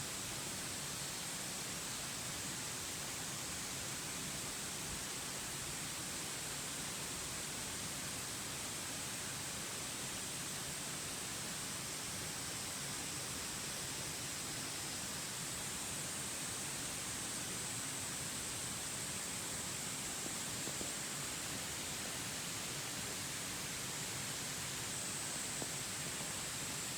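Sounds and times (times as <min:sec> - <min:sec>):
outdoor ambient hiss: 0:00.0 - 0:26.9.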